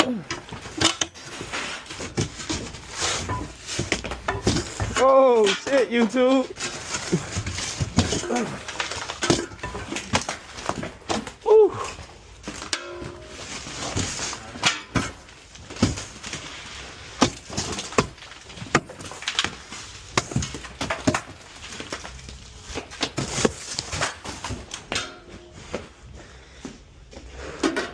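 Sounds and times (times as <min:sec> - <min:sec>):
shovel prying up roofing: 0:00.0 - 0:11.5, 0:12.4 - 0:25.6.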